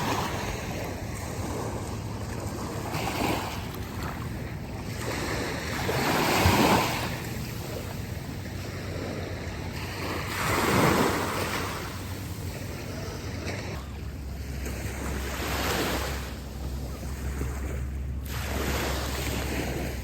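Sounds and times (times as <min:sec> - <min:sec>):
ocean surf washing onto beach: 0:00.0 - 0:20.0
wind buffeting microphone: 0:00.0 - 0:20.0.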